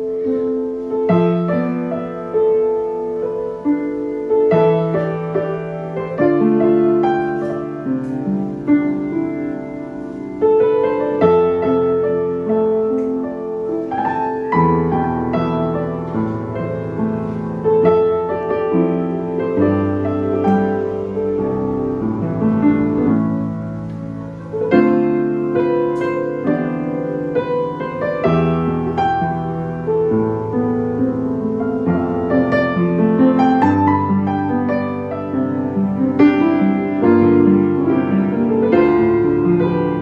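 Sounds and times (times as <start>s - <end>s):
upright piano playing chords: 0.0s - 40.0s.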